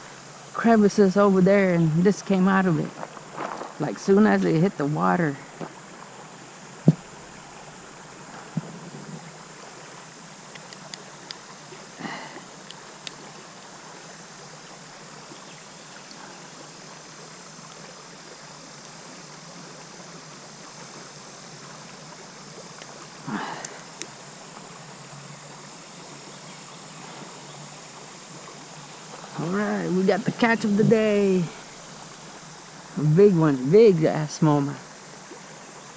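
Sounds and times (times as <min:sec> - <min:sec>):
creek water flowing over riffle: 0:00.0 - 0:35.9.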